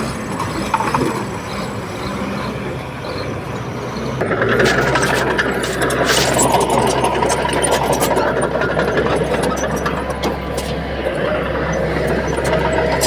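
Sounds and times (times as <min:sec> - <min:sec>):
bulldozer diesel engine running: 0:00.0 - 0:13.0
machine clanks and clicks: 0:00.0 - 0:13.0.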